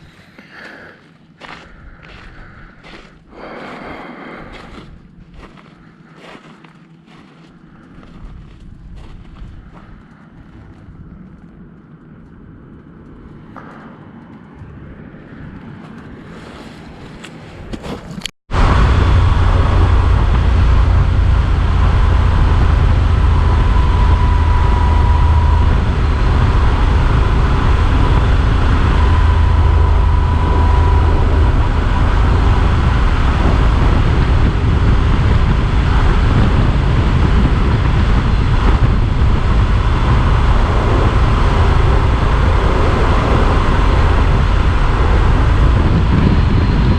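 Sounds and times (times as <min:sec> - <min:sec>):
motorcycle engine drone: 0:00.0 - 0:46.9
wind rush over camera: 0:07.0 - 0:46.9.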